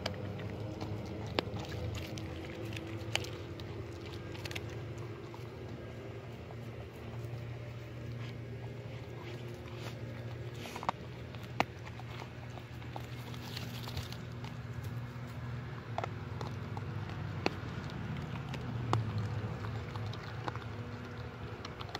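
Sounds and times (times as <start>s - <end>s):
puppy chewing and crunching fish: 0.0s - 21.9s
steady low hum: 0.0s - 21.9s.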